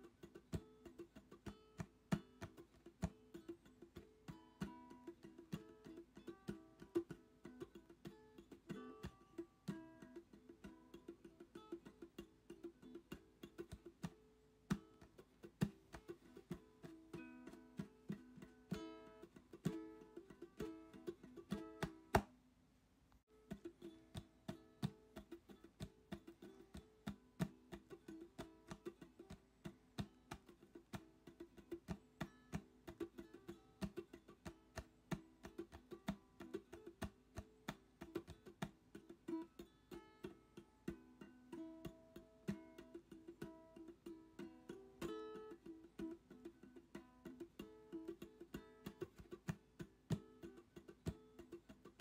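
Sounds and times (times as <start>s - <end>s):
plucked guitar tune: 0.0s - 22.4s, 23.3s - 52.0s.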